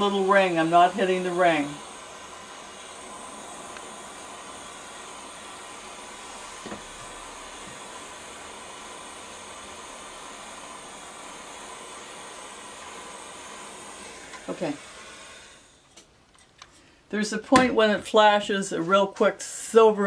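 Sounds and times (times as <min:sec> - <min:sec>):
torch flame hissing: 0:00.0 - 0:19.9.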